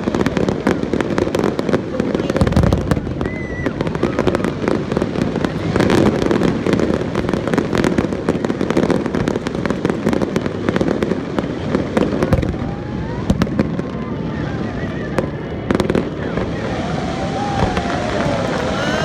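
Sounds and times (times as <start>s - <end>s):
fireworks crackling and banging: 0.0s - 14.3s, 15.0s - 19.0s.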